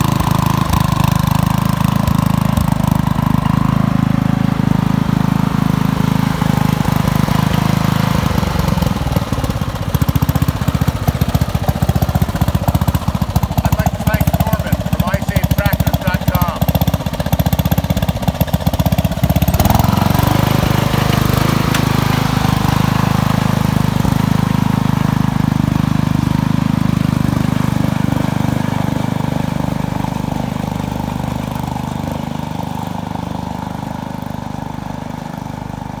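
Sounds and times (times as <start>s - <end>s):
lawn tractor engine: 0.0s - 36.0s.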